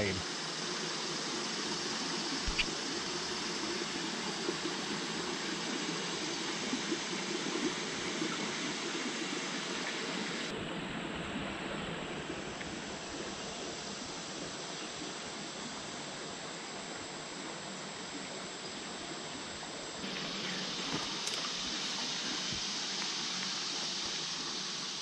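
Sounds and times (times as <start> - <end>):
creek water running: 0.0 - 25.0.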